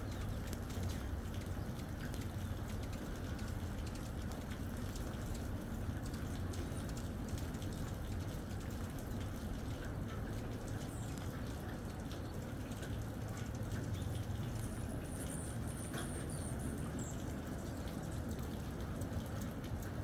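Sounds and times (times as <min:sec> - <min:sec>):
raindrops pattering: 0:00.0 - 0:20.0
steady rain hissing: 0:00.0 - 0:20.0.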